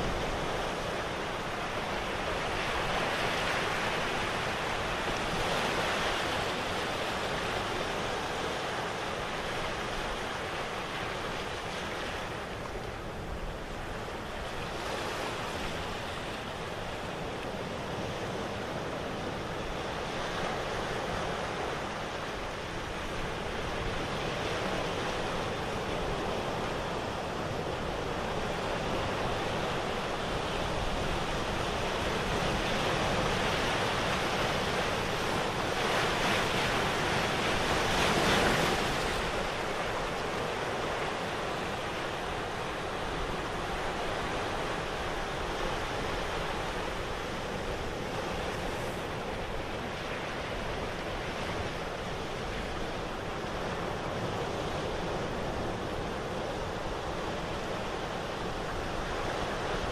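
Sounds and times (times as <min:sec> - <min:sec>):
ocean waves rushing: 0:00.0 - 0:59.9.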